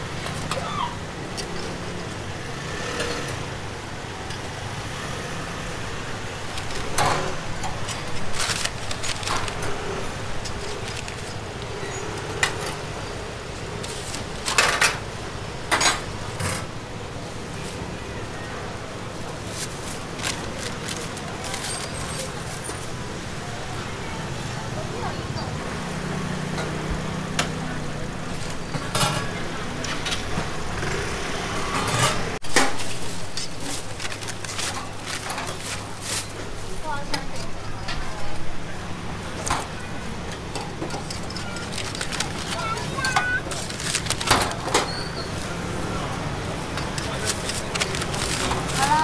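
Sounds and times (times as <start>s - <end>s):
steady background noise: 0.0s - 49.0s.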